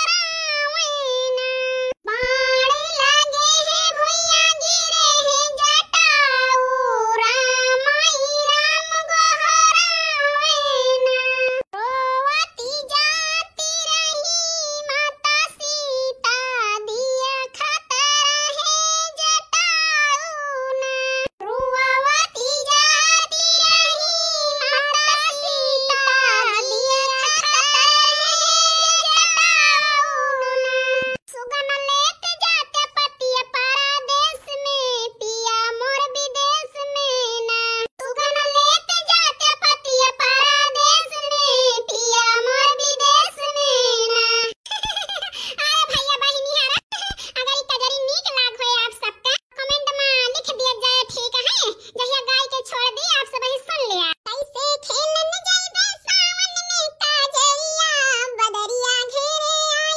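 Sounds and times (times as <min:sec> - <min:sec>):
high-pitched voice singing: 0:00.0 - 0:59.9.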